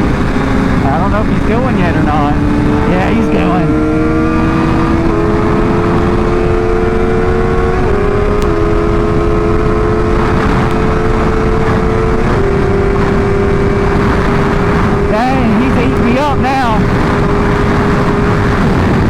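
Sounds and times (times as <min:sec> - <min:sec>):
motorcycle engine accelerating: 0:00.0 - 0:19.0
steady rush of noise: 0:00.0 - 0:19.0.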